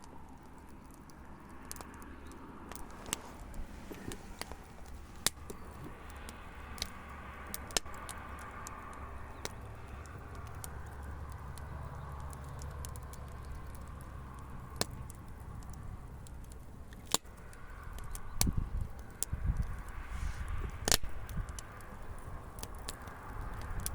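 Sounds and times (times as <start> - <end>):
fire crackling and popping: 0.0 - 23.9.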